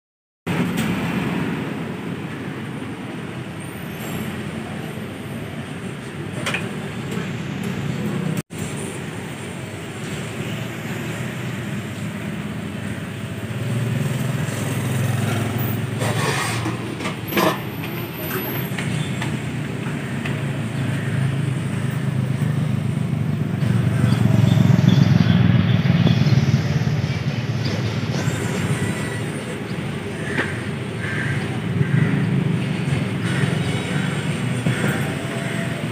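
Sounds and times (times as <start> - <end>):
road traffic rumble: 0.5 - 35.9.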